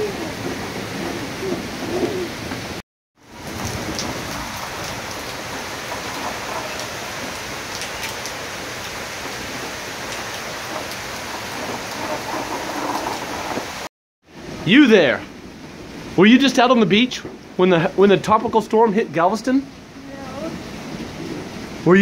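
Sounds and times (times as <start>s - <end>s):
heavy wind-driven rain: 0.0s - 22.0s.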